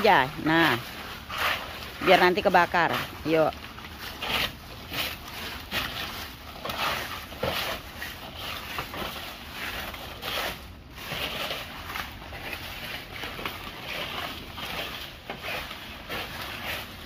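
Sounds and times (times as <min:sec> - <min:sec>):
broom sweeping dry leaves: 0:00.0 - 0:17.0.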